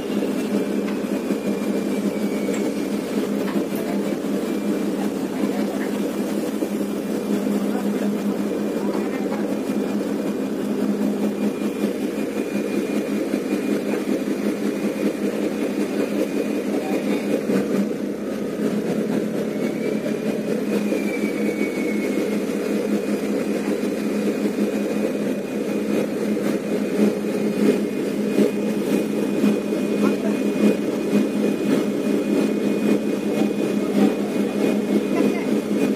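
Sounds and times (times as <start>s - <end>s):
boat diesel engine running: 0.0s - 35.9s.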